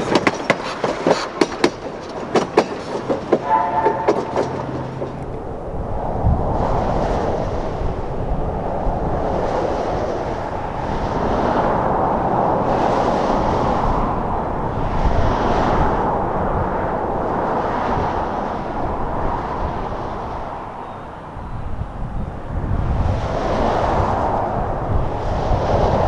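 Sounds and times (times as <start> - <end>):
steam train rumbling: 0.0 - 26.0.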